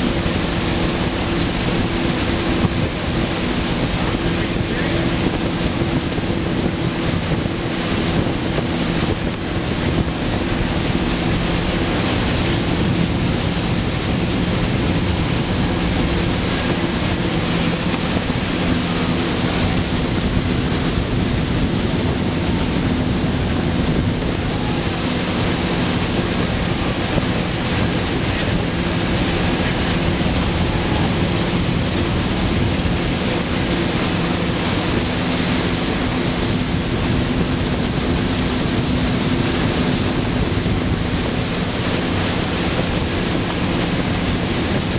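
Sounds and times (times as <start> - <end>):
boat engine droning: 0.0 - 44.9
rush of churning wake: 0.0 - 44.9
wind buffeting microphone: 0.0 - 44.9.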